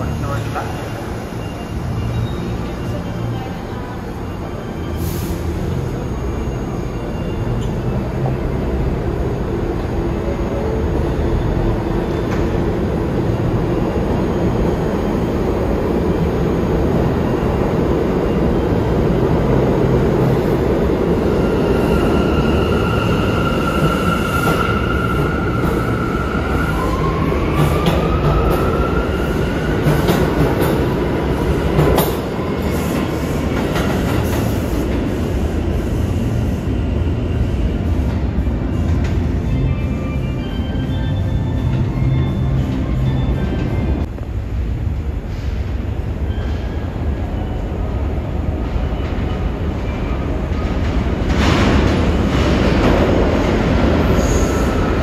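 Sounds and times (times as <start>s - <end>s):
subway train rumble: 0.0s - 55.0s.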